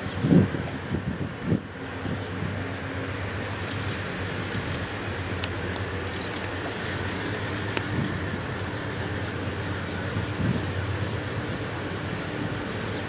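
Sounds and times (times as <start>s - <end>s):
diesel locomotive engines droning: 0.0s - 13.0s.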